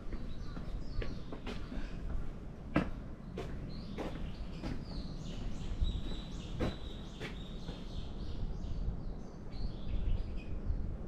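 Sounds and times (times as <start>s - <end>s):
birds chirping: 0.0s - 11.0s
wind rumble on microphone: 0.0s - 11.0s.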